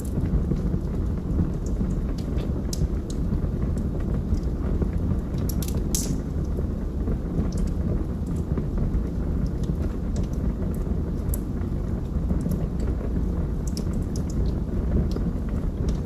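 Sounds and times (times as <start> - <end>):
burning wood crackling and popping: 0.0 - 16.0
log fire rumbling: 0.0 - 16.0.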